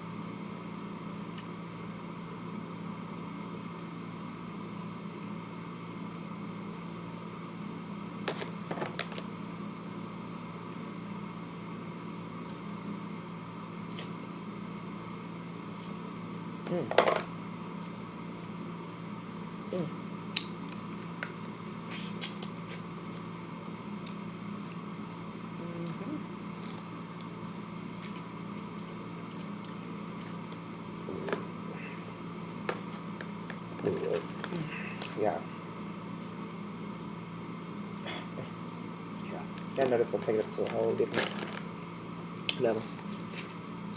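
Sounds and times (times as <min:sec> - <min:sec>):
electrical room hum: 0:00.0 - 0:43.9.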